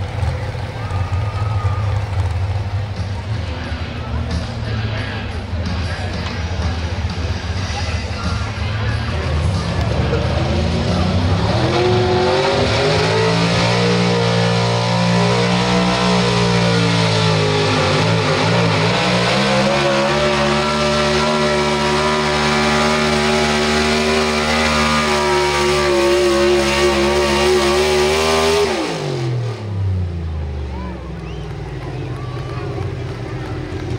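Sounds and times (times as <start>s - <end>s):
truck engine revving hard: 0.0s - 33.9s.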